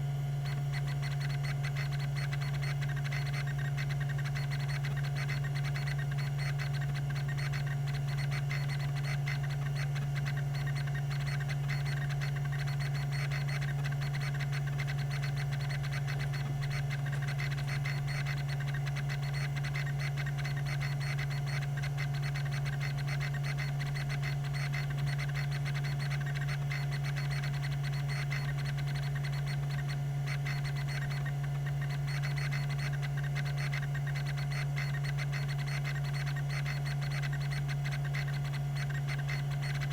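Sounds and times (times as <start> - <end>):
hard drive motor hum: 0.0 - 39.9
thin whine: 0.0 - 39.9
hard drive head ticking: 0.4 - 39.9.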